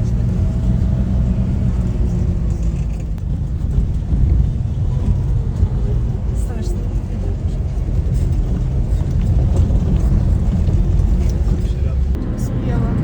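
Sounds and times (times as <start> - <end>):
car engine running: 0.0 - 13.0
low road rumble: 0.0 - 13.0.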